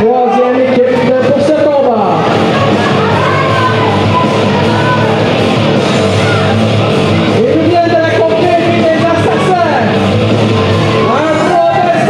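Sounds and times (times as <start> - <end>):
loud rock music with singing: 0.0 - 12.0.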